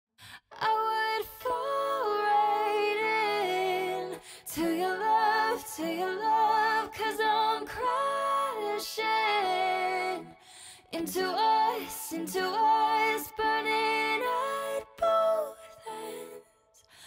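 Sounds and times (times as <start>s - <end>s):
woman singing: 0.2s - 17.0s.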